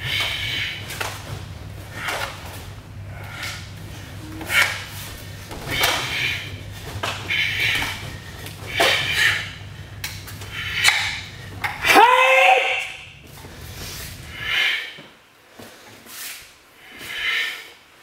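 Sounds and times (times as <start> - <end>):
forceful exhalations: 0.0 - 11.7, 13.2 - 17.8
low steady hum: 0.0 - 18.0.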